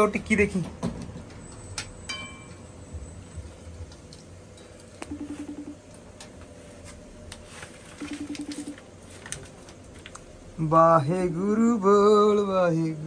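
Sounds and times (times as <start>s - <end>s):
low steady hum: 1.7s - 13.0s.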